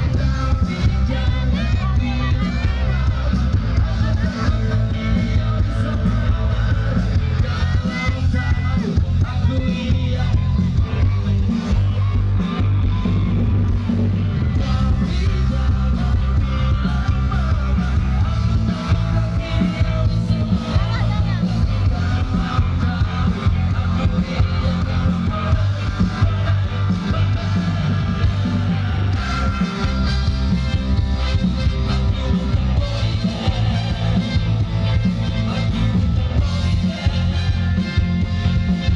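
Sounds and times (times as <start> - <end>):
bass guitar: 0.0 - 38.9
live rock band: 0.0 - 38.9.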